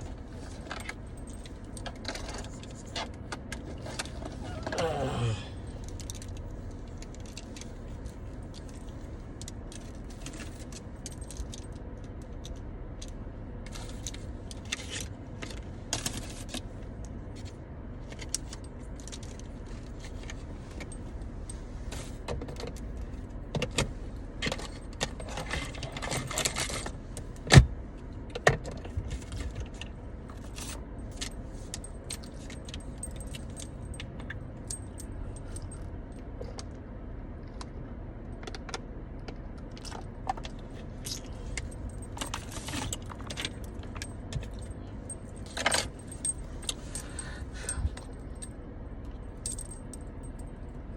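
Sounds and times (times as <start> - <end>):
steady low rumble: 0.0 - 25.3, 26.9 - 50.9.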